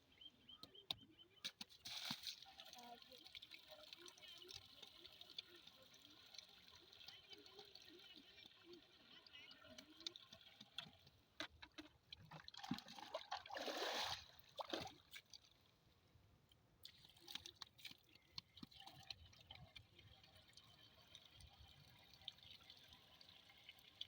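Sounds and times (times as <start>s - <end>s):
water trickling and dripping: 1.4s - 24.0s.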